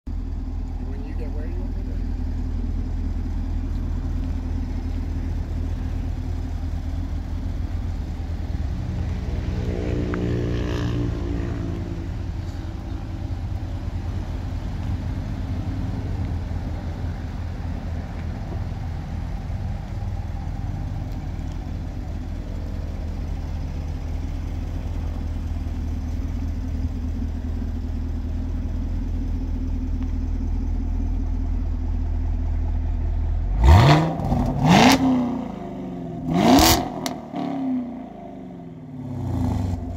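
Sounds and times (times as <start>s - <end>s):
car engine idling: 0.1s - 39.9s.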